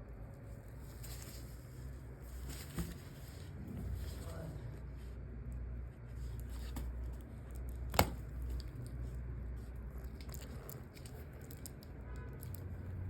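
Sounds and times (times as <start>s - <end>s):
low steady hum: 0.0s - 13.0s
handling and rustling noises: 0.2s - 13.0s.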